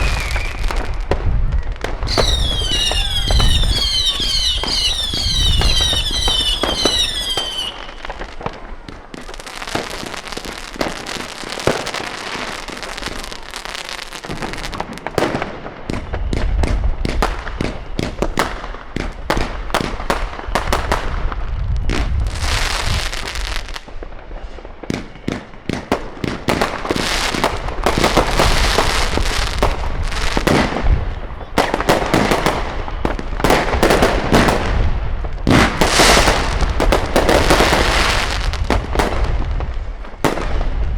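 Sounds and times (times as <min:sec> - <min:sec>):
deep firework booms: 0:00.0 - 0:13.1, 0:14.3 - 0:40.9
firecracker cracks and bangs: 0:00.0 - 0:40.9
whistling fireworks: 0:00.0 - 0:40.9.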